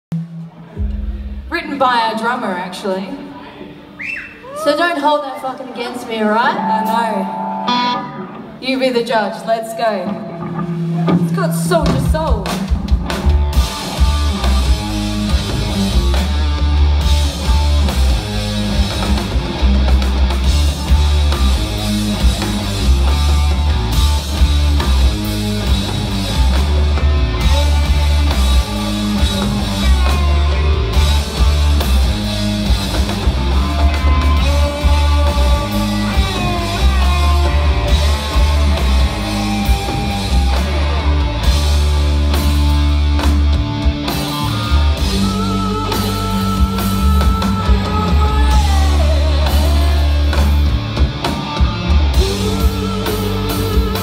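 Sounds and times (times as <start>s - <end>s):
rock band playing: 0.1s - 54.0s
lead guitar lines bending: 6.0s - 54.0s.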